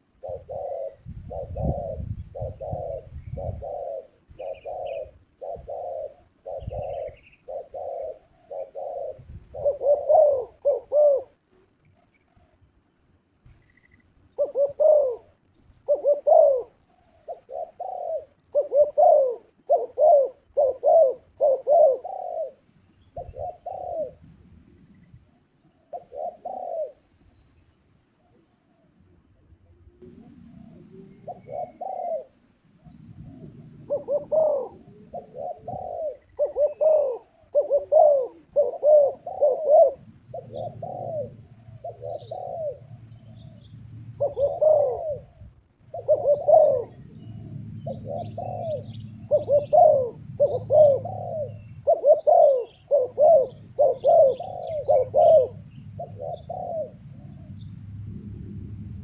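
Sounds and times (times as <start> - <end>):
dove cooing: 0.0 - 12.8, 13.6 - 27.4, 28.2 - 59.0.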